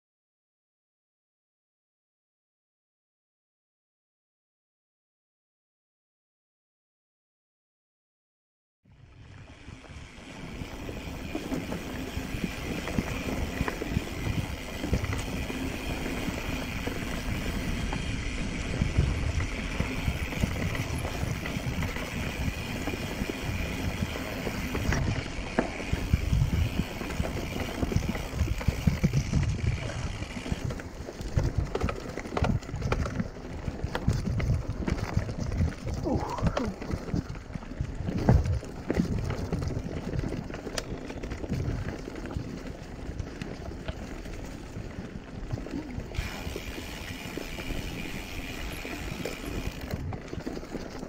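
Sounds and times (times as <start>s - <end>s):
wind noise on microphone: 9.0s - 51.0s
bike knocking and rattling: 9.4s - 51.0s
tyres rumbling on dirt: 9.8s - 51.0s.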